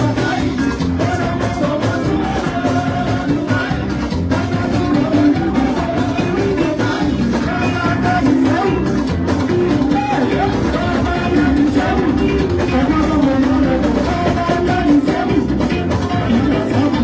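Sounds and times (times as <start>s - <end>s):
band music: 0.0s - 17.0s
person singing: 0.0s - 17.0s.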